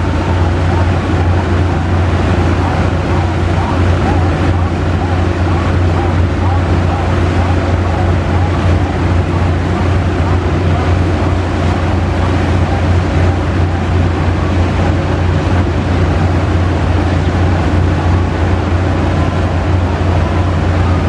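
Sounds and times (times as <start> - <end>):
boat diesel engine droning: 0.0 - 21.0
wind and water rushing: 0.0 - 21.0.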